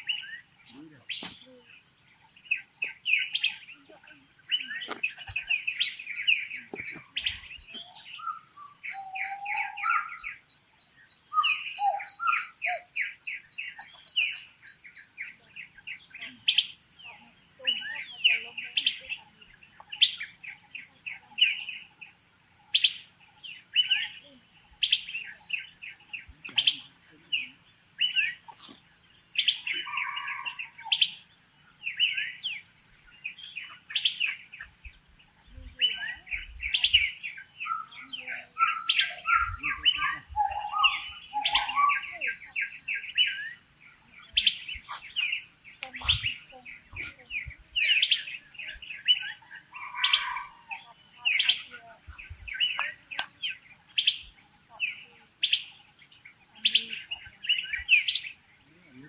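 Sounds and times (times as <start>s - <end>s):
forest birds chirping: 0.0s - 59.0s.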